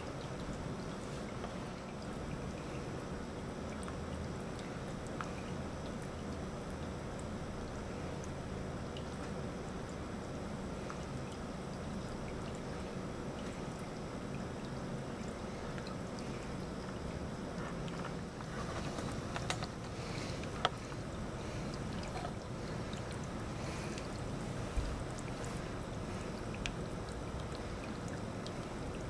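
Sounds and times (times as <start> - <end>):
fountain pump hum: 0.0 - 29.0
water trickling and bubbling: 0.0 - 29.0.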